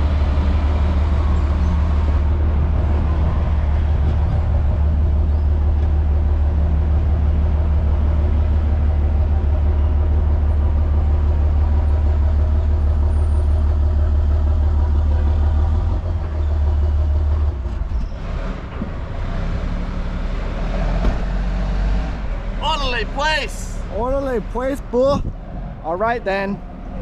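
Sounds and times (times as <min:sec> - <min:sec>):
engine and road noise drone: 0:00.0 - 0:27.0.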